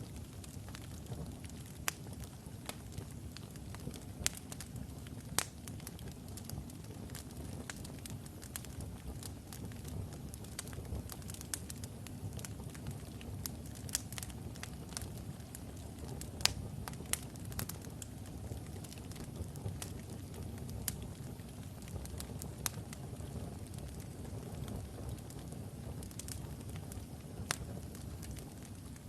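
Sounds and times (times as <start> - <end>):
fire crackles and pops: 0.0 - 29.0
low rumble of flame: 0.0 - 29.0.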